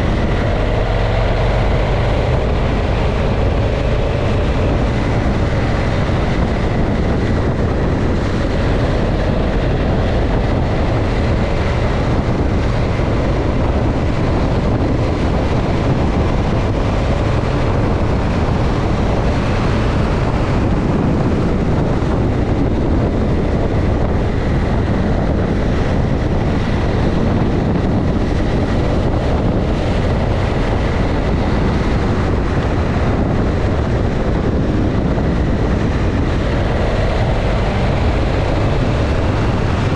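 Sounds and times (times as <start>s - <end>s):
motorcycle engine running: 0.0s - 39.9s
road noise: 0.0s - 39.9s
wind rush over microphone: 0.0s - 39.9s.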